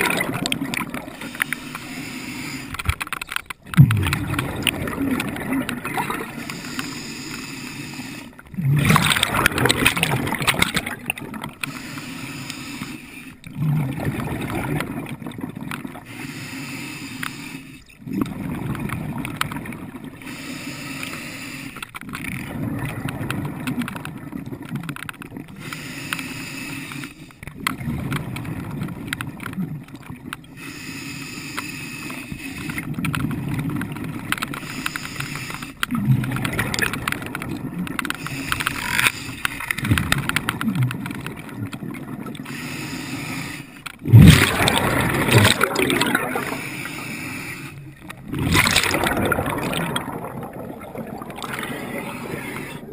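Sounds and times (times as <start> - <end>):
muffled underwater water rush: 0.0 - 52.9.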